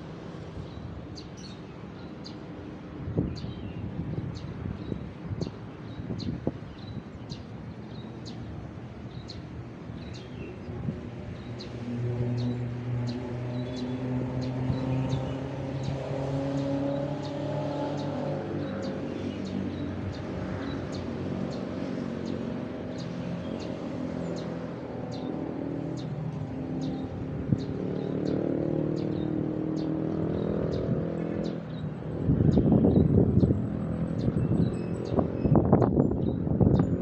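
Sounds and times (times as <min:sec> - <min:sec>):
traffic engine hum: 0:00.0 - 0:37.0.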